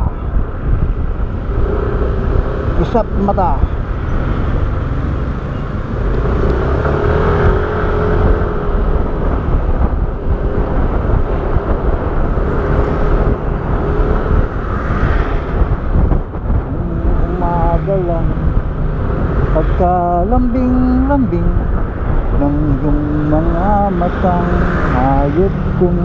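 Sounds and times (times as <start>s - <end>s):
motor scooter engine rumble: 0.0s - 26.0s
wind on microphone: 0.0s - 26.0s.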